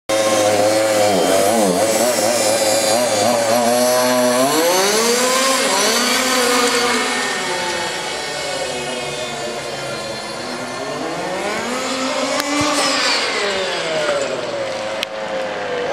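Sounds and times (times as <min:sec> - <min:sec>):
small nitro engine revving: 0:00.1 - 0:15.9.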